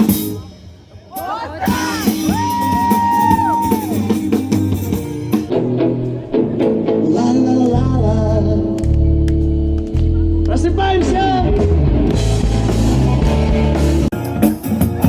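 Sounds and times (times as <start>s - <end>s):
rock song with singing: 0.0s - 15.0s
heavy bass line: 1.7s - 15.0s.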